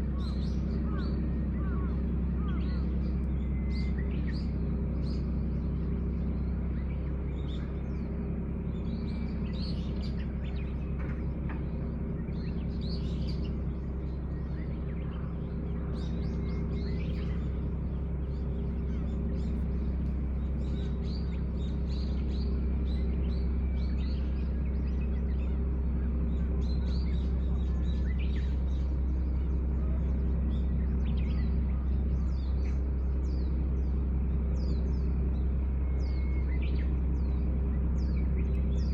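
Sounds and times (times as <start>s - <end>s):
small birds chirping: 0.0s - 38.9s
steady low drone: 0.0s - 38.9s.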